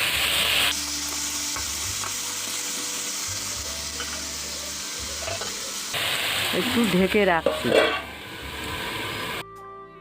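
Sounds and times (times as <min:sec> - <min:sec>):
vegetables sizzling in hot oil: 0:00.0 - 0:09.4.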